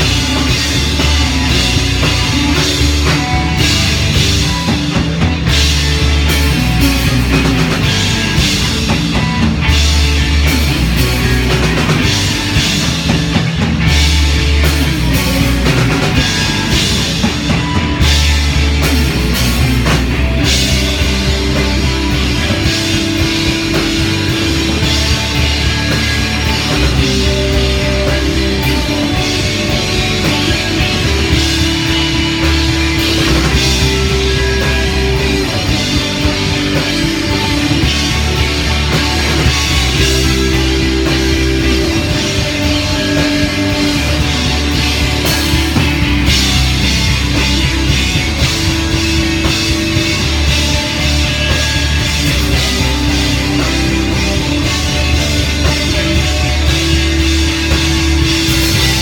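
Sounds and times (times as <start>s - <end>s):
drum kit: 0.0s - 59.0s
electric bass: 0.0s - 59.0s
electric guitars: 0.0s - 59.0s.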